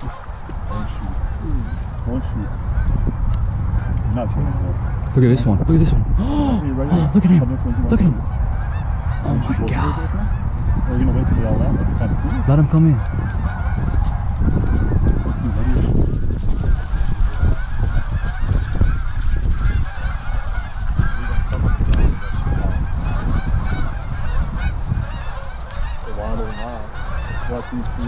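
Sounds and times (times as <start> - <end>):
flock of geese honking: 0.0 - 28.0.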